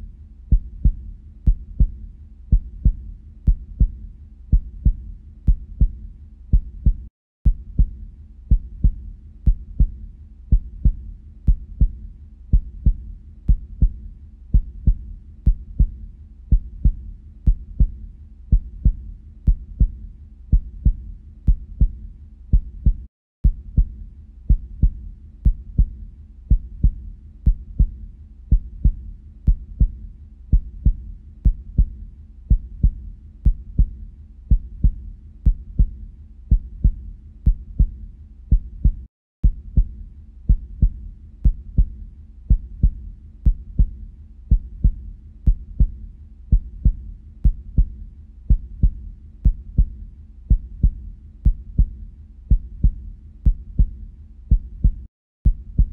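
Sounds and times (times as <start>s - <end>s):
heartbeat: 0.0s - 55.9s.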